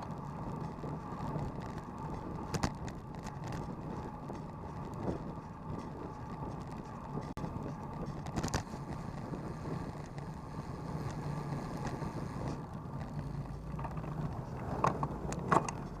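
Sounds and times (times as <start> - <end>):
engine hum: 0.0 - 16.0
road noise: 0.0 - 16.0.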